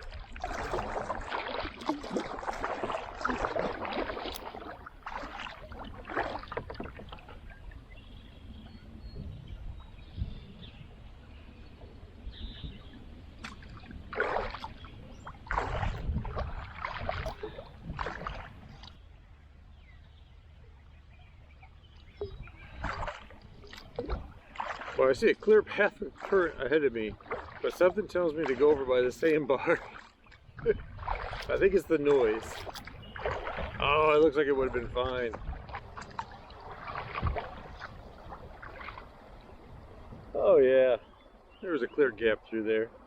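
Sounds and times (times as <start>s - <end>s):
paddle strokes splashing water: 0.0s - 19.1s, 19.8s - 43.0s.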